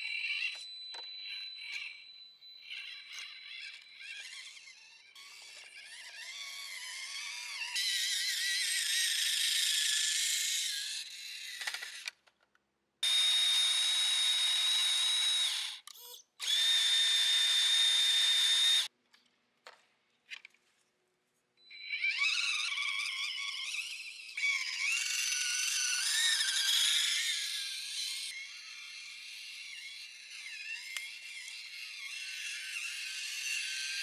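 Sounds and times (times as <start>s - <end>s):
toy car motor whining: 0.0s - 12.2s, 13.0s - 18.9s, 21.7s - 34.0s.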